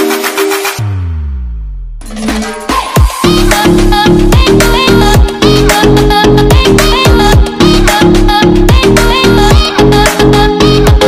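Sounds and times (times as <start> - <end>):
upbeat music with driving beat: 0.0 - 11.0.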